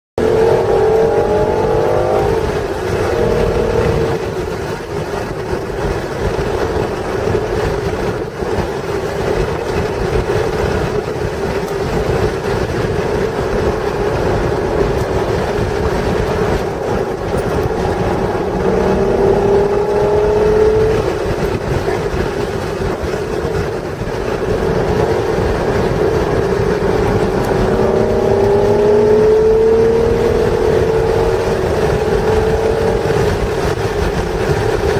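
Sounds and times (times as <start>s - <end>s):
car engine accelerating: 0.2s - 34.9s
wind and road noise: 0.2s - 34.9s.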